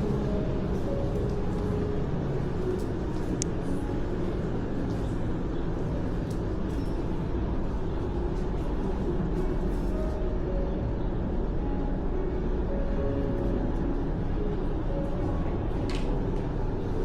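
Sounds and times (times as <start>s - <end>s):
low city rumble: 0.0s - 17.0s.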